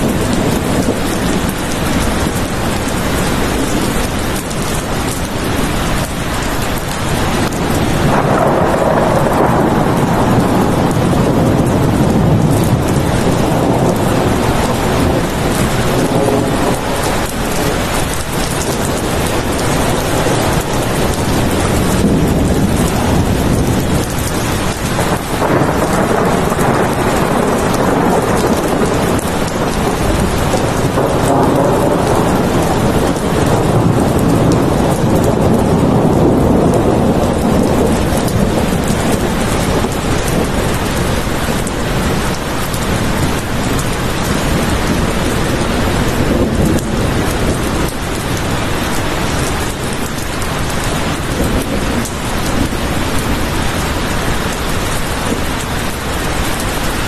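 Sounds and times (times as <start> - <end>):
heavy rain: 0.0 - 57.0
thunder rolling: 0.0 - 57.0.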